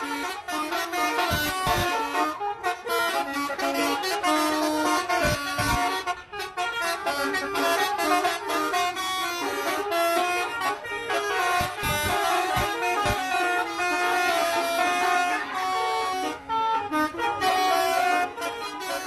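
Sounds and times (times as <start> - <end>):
bus horns playing a tune: 0.0 - 19.0.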